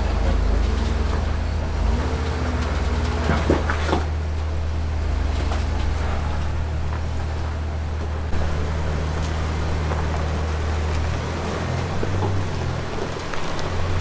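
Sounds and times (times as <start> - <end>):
car engine crawling drone: 0.0 - 14.0.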